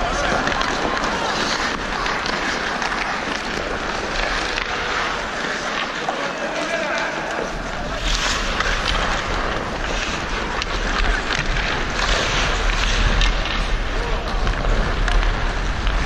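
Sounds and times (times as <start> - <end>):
ice skates scraping: 0.0 - 16.0.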